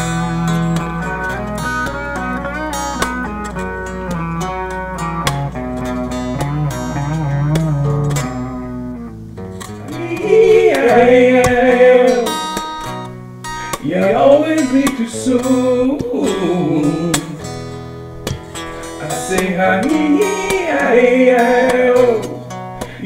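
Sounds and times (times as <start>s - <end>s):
picked guitar melody: 0.0s - 23.0s.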